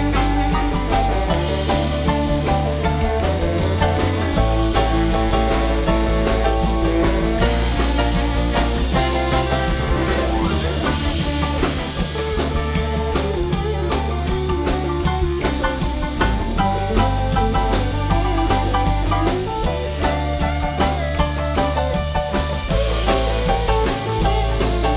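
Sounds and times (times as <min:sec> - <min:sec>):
live band playing soul-rock: 0:00.0 - 0:24.9.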